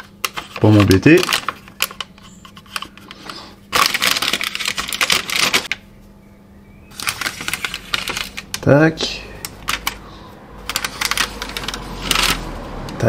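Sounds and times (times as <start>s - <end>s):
paper rustling: 0.0s - 5.8s, 6.9s - 8.7s, 9.4s - 12.5s.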